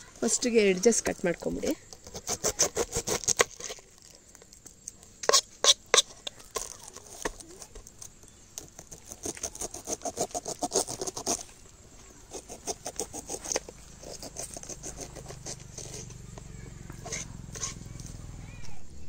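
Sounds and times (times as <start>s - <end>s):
knife crunching through pineapple rind: 1.9s - 16.3s, 17.0s - 18.2s.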